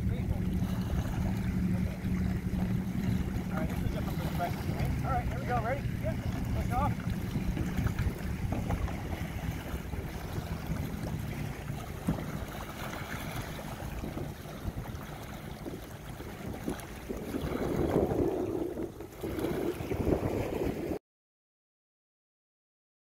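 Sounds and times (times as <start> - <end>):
canoe paddles splashing: 0.0 - 21.0
wind buffeting microphone: 0.0 - 21.0
small waves lapping on stones: 0.4 - 20.8.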